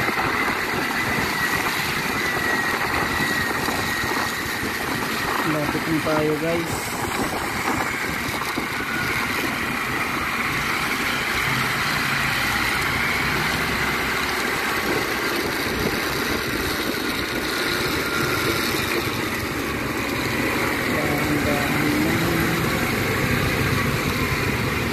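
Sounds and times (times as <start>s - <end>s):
motorcycle engine drone: 0.0s - 24.9s
tyres on wet road: 0.0s - 24.9s
wind noise: 0.0s - 24.9s.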